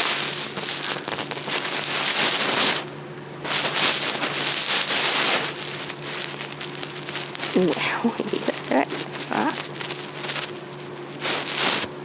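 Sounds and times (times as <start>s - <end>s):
crackling and rustling on microphone: 0.0s - 12.0s.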